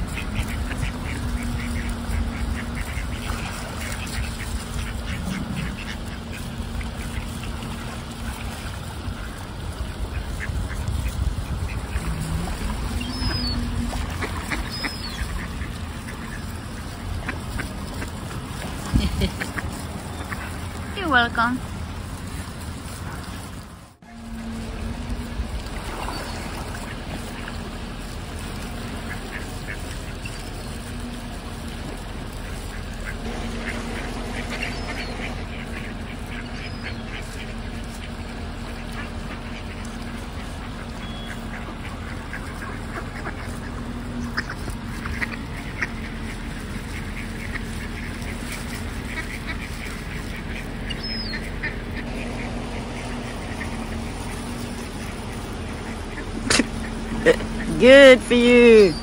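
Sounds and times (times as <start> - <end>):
ducks quacking: 0.0 - 59.0
steady low hum: 0.0 - 59.0.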